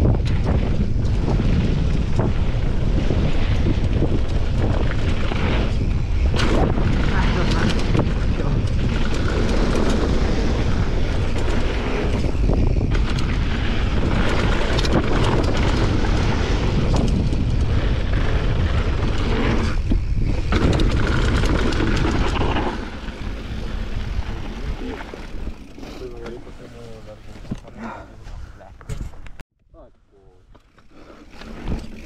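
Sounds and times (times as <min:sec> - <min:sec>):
bike rattling and clicking: 0:00.0 - 0:27.8, 0:30.4 - 0:32.0
bike tyres on loose gravel: 0:00.0 - 0:29.2, 0:30.6 - 0:32.0
wind rushing over microphone: 0:00.0 - 0:29.4.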